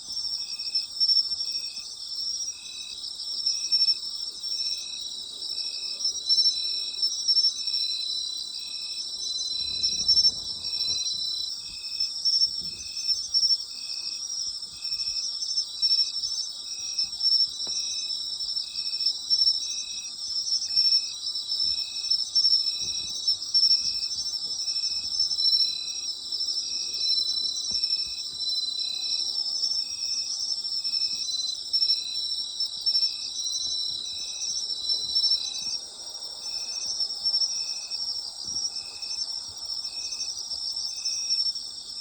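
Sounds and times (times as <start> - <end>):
insect chirping rhythmically: 0.0 - 42.0
insects trilling: 0.1 - 42.0.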